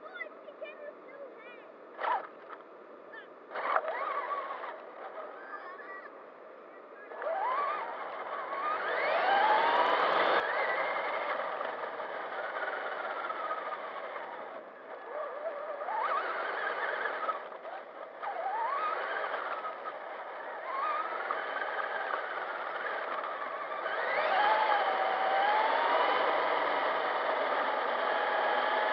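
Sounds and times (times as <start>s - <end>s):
wind: 0.0s - 28.9s
electric motor and gears whining: 2.0s - 6.1s, 7.0s - 28.9s.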